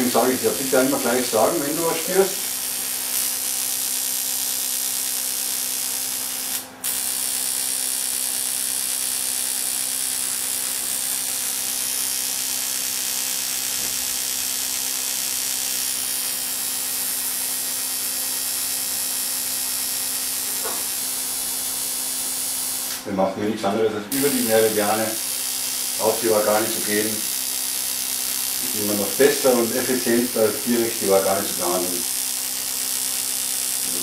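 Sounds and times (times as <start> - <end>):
steady electrical hiss: 0.0 - 34.0.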